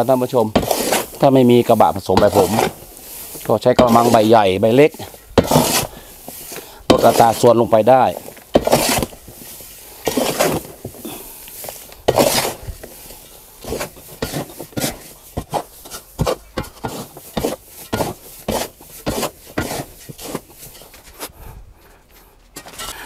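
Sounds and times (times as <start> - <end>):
hand hoe scraping soil: 0.0 - 21.4, 22.0 - 23.0.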